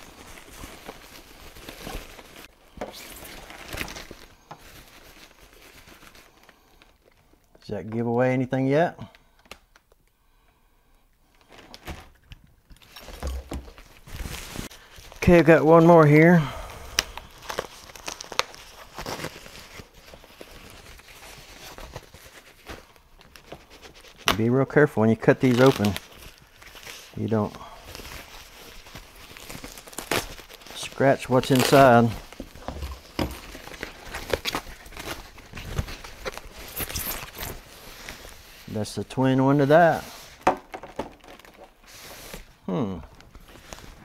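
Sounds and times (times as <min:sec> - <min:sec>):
plastic wrap rustling and crinkling: 0:00.0 - 0:07.6, 0:11.3 - 0:44.0.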